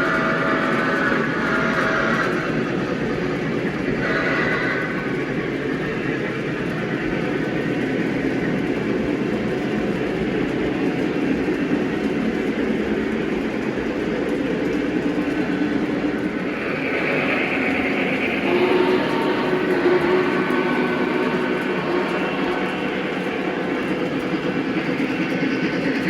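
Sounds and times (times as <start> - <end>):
model train rumbling: 0.0 - 26.0.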